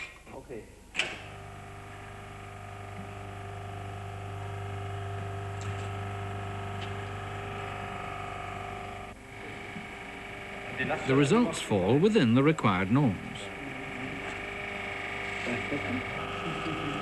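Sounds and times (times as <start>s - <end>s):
machine hum: 1.0s - 17.0s.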